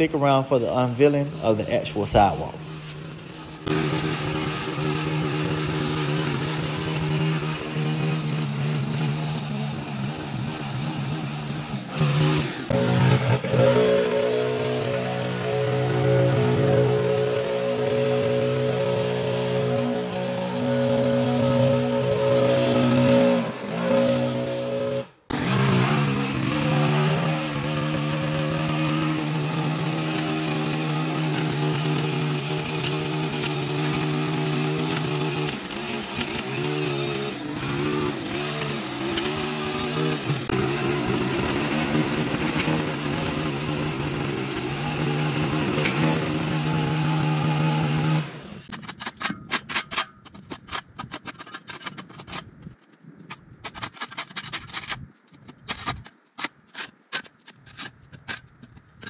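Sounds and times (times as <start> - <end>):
lawn edger engine running: 0.0 - 49.4
repeated scraping strokes: 0.0 - 59.0.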